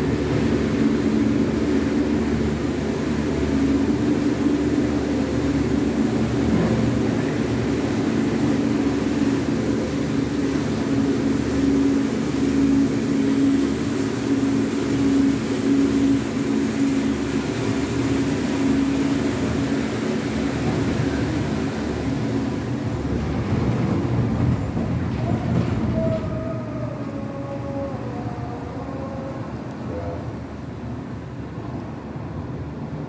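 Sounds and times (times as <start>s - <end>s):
low humming tone: 0.0s - 31.2s
cable car mechanical drone: 0.0s - 33.0s.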